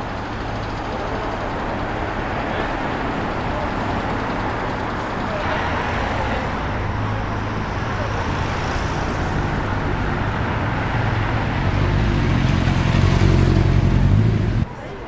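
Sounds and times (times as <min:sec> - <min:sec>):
car engine running nearby: 0:00.0 - 0:14.7
street traffic: 0:00.0 - 0:15.0.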